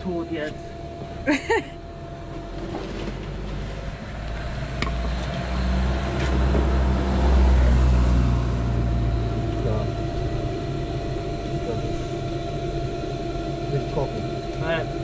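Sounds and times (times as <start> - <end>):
motor rumbling: 0.0 - 15.0.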